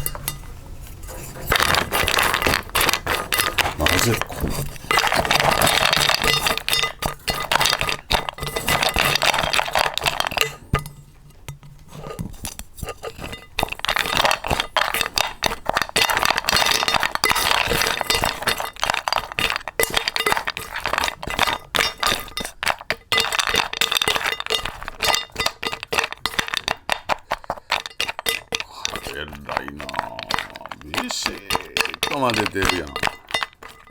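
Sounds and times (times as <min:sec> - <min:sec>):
spoon scraping a bowl: 0:00.0 - 0:33.9.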